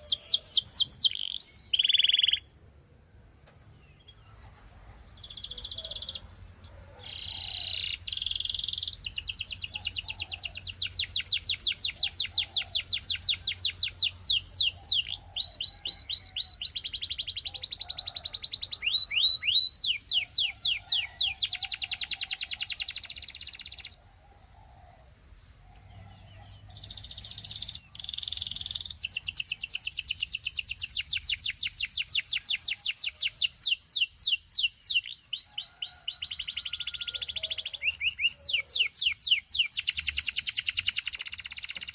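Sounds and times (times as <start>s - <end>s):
canary singing rapid trills: 0.0s - 2.6s, 3.9s - 24.0s, 25.9s - 41.9s.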